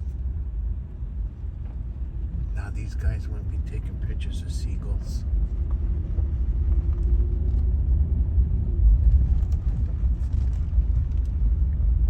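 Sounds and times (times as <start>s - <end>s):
car interior rumble: 0.0s - 12.0s
faint steady hum: 0.0s - 12.0s.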